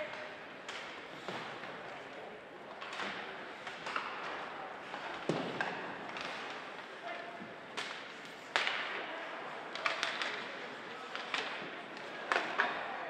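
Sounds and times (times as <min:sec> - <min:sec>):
hockey sticks hitting puck: 0:00.0 - 0:13.0.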